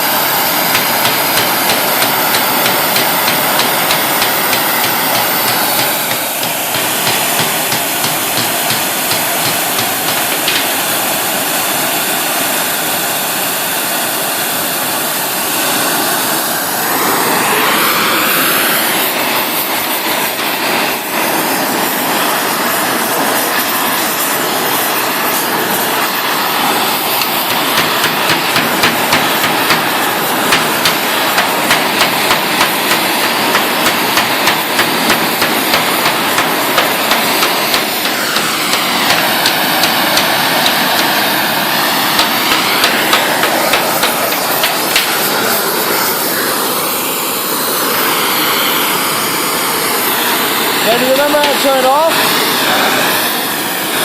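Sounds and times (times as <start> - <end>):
gas torch rushing hiss: 0.0 - 54.0.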